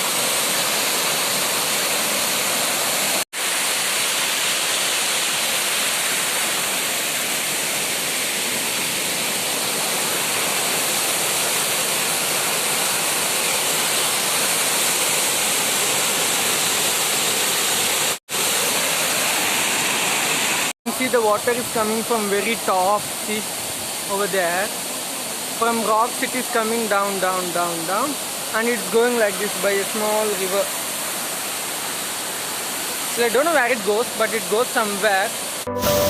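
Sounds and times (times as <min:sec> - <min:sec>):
waterfall rushing over rocks: 0:00.0 - 0:36.0.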